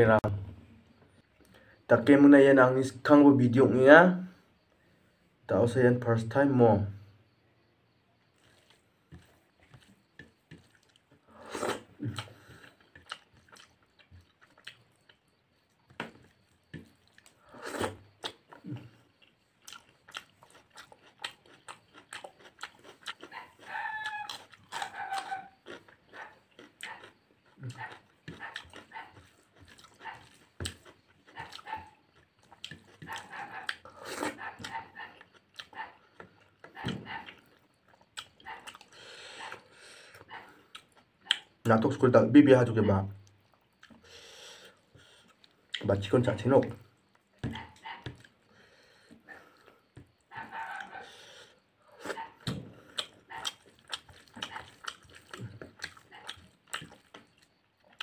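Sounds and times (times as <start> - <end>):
wet chewing: 8.3 - 41.6, 43.2 - 58.0.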